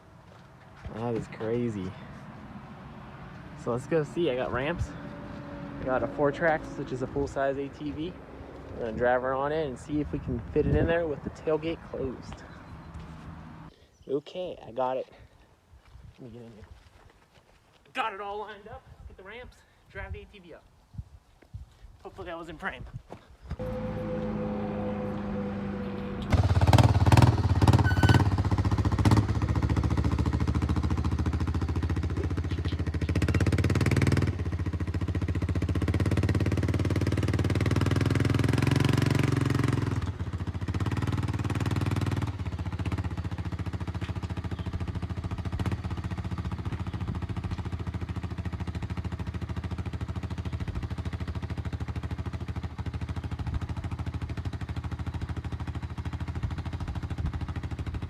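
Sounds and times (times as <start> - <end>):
atv engine revving: 0.9 - 13.7, 23.6 - 58.0.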